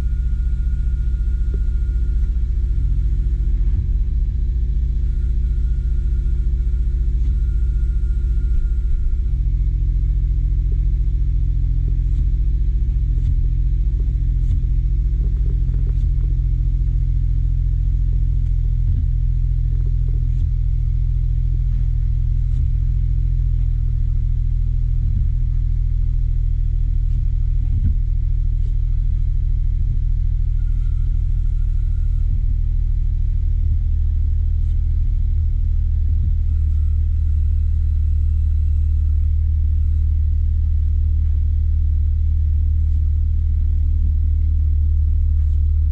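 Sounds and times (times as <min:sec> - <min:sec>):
car engine running with low hum: 0:00.0 - 0:45.9.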